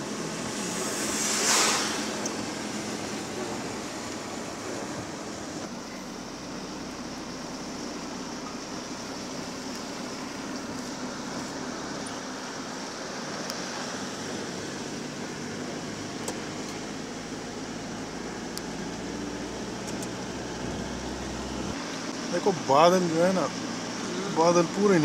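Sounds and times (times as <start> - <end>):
car cabin road noise: 0.0 - 25.0
tyres on wet road: 0.0 - 25.0.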